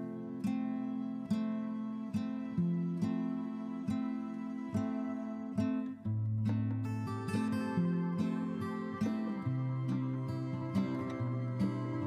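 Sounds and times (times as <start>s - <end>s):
gentle plucked notes: 0.0s - 12.0s.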